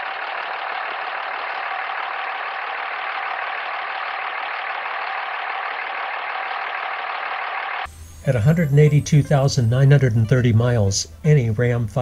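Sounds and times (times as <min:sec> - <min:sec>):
diesel engine idling with whine: 0:00.0 - 0:12.0.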